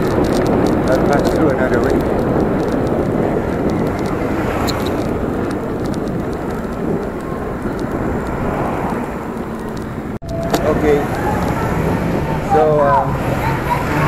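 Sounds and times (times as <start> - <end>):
light clicks and rattles: 0.0 - 11.6
road noise: 0.0 - 14.0
wind rushing on microphone: 0.0 - 14.0.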